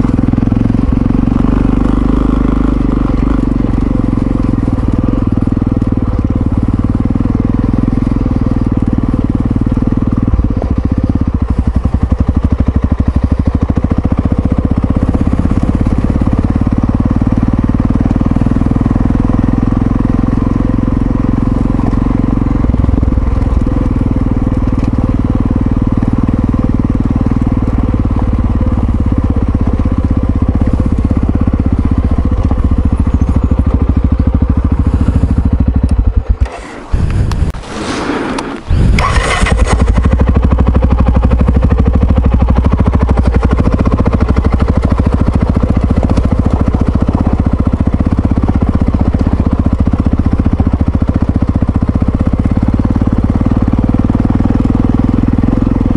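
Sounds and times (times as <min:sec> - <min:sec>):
motorcycle engine running: 0:00.0 - 0:37.6, 0:38.4 - 0:55.9.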